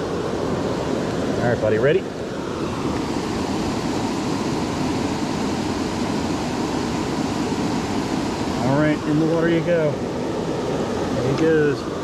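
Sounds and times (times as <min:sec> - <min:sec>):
stream water rushing over stones: 0:00.0 - 0:12.0.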